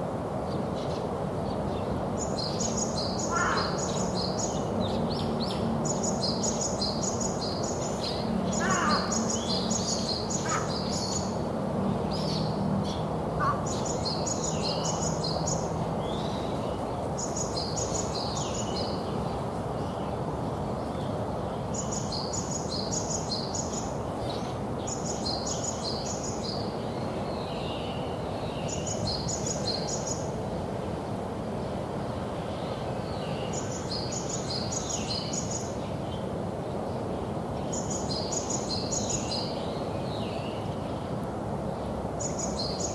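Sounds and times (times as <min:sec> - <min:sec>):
steady background hiss: 0:00.0 - 0:42.9
songbird singing: 0:00.4 - 0:42.9.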